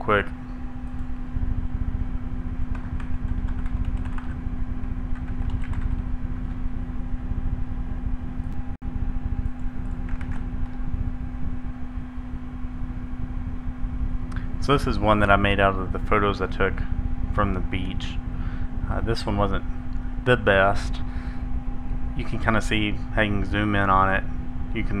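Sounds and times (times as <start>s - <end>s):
machine hum and rumble: 0.0s - 25.0s.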